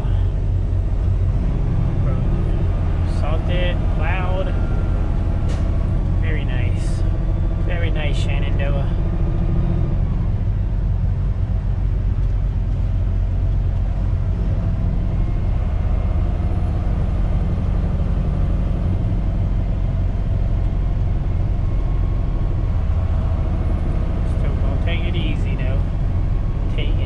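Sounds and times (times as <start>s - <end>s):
road noise: 0.0s - 27.0s
truck diesel engine droning: 0.0s - 27.0s.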